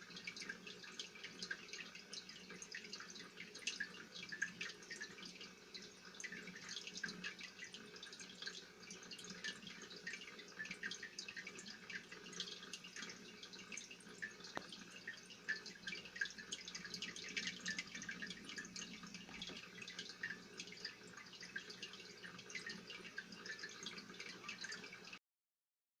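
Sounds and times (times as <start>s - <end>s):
aquarium water bubbling and trickling: 0.0s - 25.2s.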